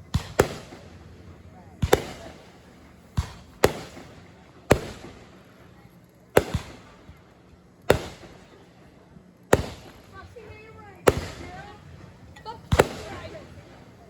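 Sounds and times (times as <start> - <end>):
fireworks booming: 0.0 - 8.8, 9.5 - 14.0.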